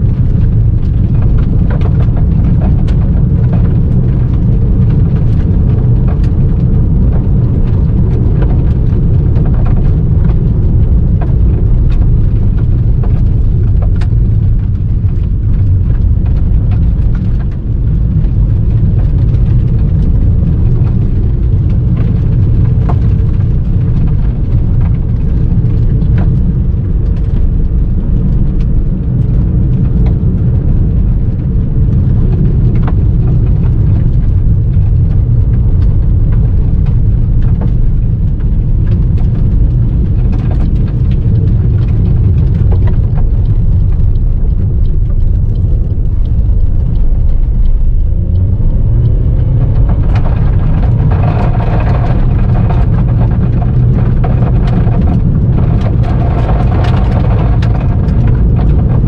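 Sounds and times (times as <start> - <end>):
car engine accelerating: 0.0 - 59.0
stones clicking against car: 0.0 - 59.0
tyres rumbling on gravel: 0.0 - 59.0.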